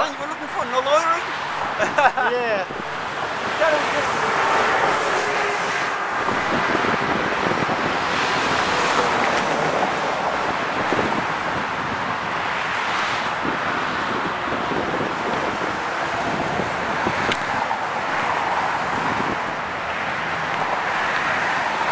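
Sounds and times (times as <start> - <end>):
road traffic rushing: 0.0 - 21.9
wind buffeting microphone: 2.6 - 21.9.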